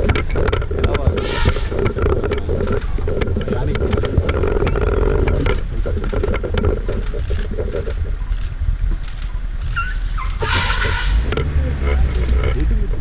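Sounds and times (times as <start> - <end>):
vehicle body knocking and rattling: 0.0 - 13.0
vehicle engine rumbling: 0.0 - 13.0.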